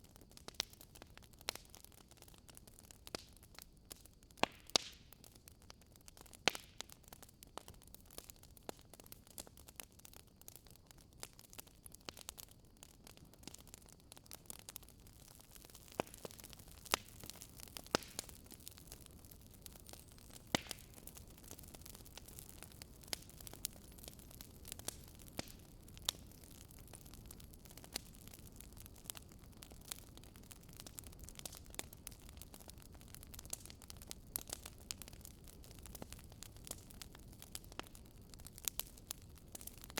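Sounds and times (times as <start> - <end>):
campfire crackling and popping: 0.0 - 39.9
low steady hiss: 0.0 - 39.9.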